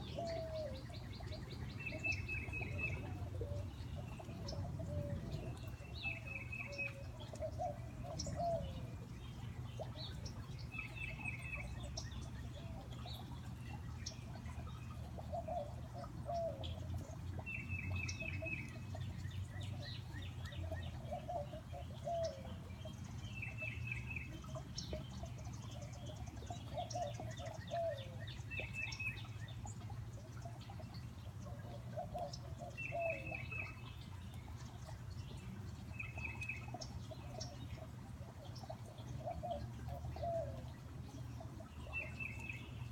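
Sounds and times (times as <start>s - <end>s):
fountain water: 0.0s - 42.9s.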